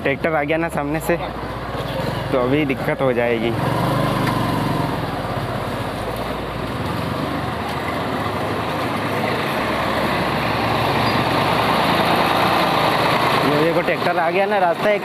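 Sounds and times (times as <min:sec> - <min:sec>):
tractor engine approaching: 0:00.0 - 0:15.0.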